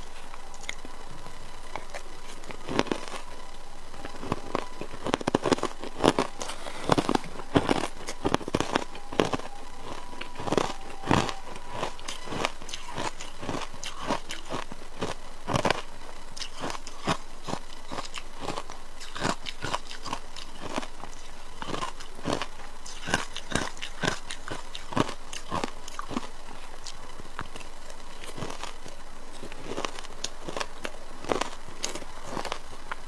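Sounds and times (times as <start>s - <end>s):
ice crunching between teeth: 1.5s - 3.4s, 4.0s - 33.0s.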